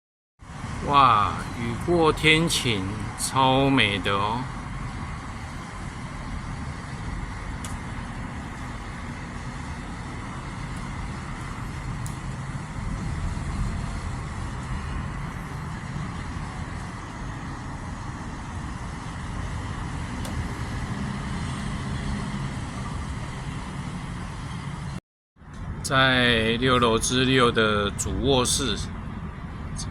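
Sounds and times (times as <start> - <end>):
road traffic rumble: 0.4 - 29.9.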